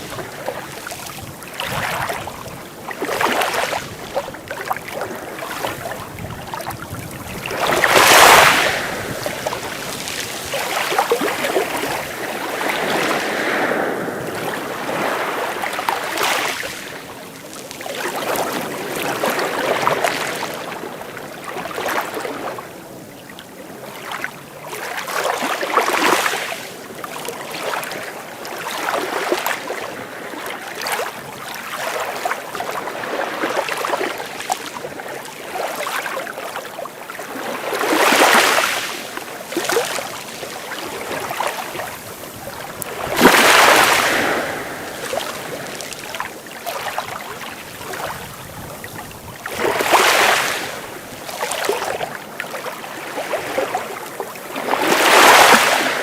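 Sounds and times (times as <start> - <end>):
sea waves breaking: 0.0 - 56.0.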